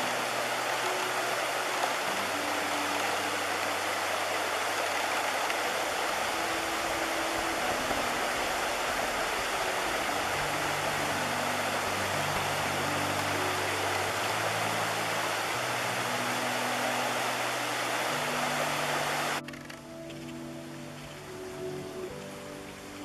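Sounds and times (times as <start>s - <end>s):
river water rushing over rocks: 0.0s - 23.0s.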